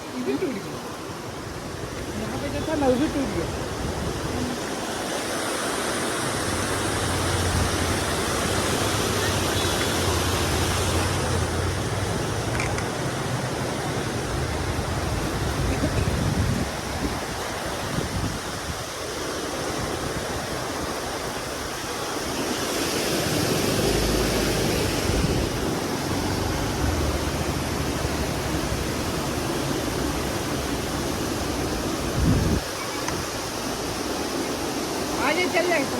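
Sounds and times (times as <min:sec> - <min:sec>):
heavy rain on flooded road: 0:00.1 - 0:35.9.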